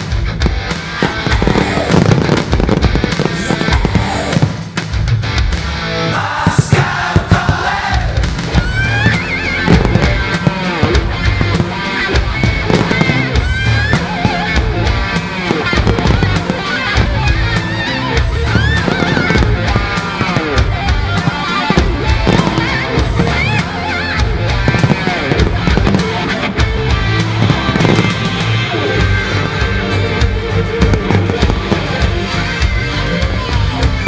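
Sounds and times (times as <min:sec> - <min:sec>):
fireworks bursting and crackling: 0:00.0 - 0:34.0
loud music with heavy bass: 0:00.0 - 0:34.0.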